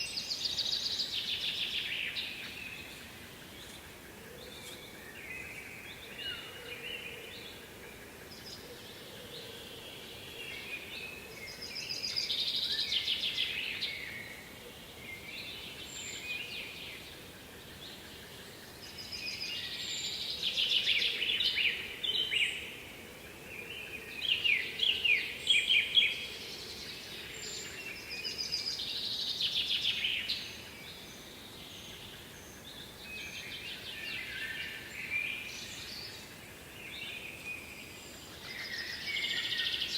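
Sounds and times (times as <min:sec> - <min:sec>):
faint background noise: 0:00.0 - 0:39.9.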